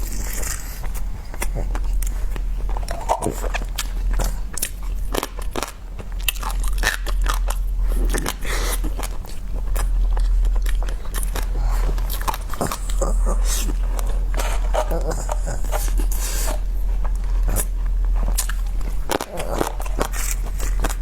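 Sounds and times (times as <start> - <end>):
person chewing crunchy food: 0.0 - 21.0
steady low hum: 0.0 - 21.0.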